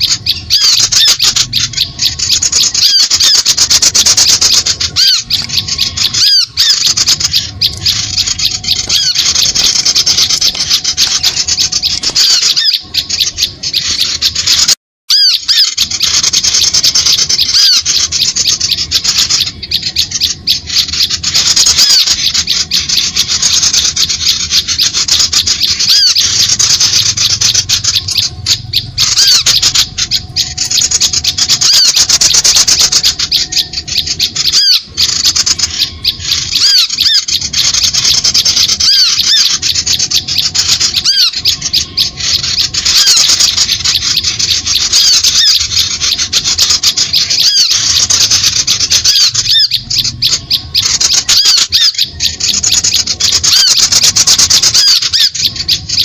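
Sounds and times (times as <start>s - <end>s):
small birds chattering: 0.0s - 56.0s.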